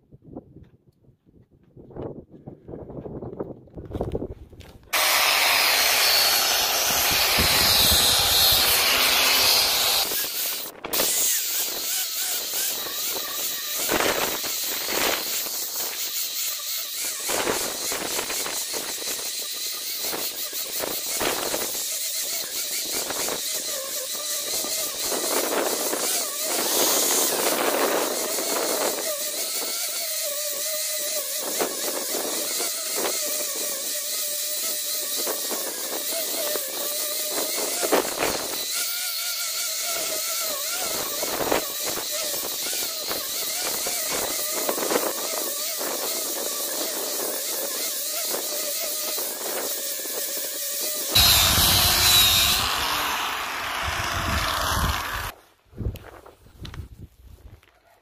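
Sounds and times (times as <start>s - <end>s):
angle grinder sanding wood: 4.9s - 55.4s.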